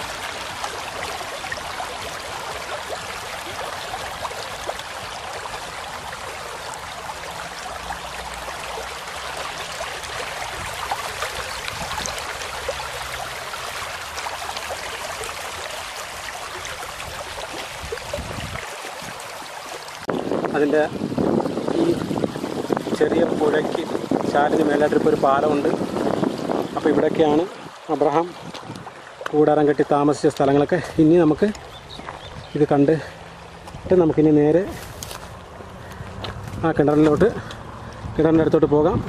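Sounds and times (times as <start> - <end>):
stream babbling over stones: 0.0 - 39.0.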